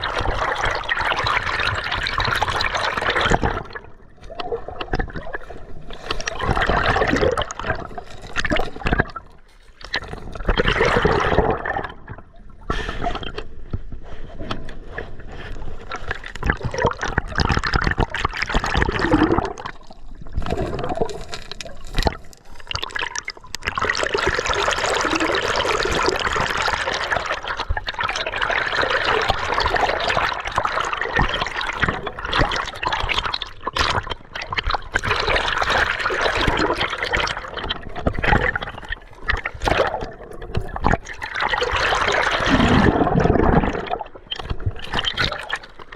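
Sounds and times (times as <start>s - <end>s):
river water gurgling and splashing: 0.0s - 12.1s, 15.9s - 45.9s.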